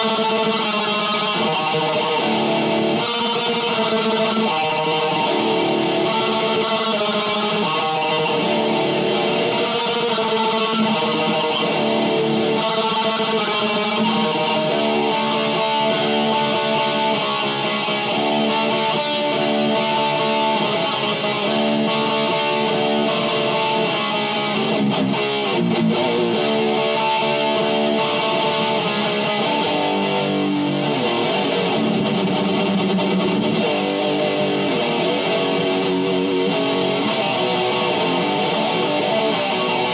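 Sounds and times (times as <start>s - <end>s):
electric guitar metal riffs: 0.0s - 39.9s.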